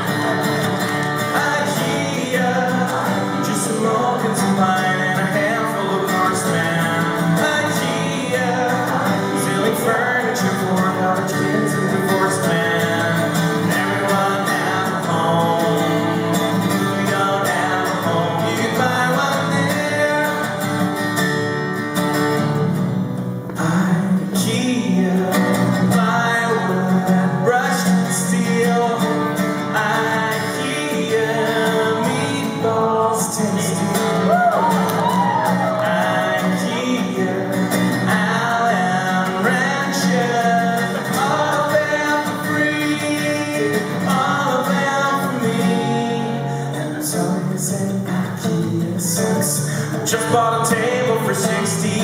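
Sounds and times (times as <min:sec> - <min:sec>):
person singing: 0:00.0 - 0:20.5, 0:23.6 - 0:52.0
acoustic guitar strumming: 0:00.0 - 0:52.0.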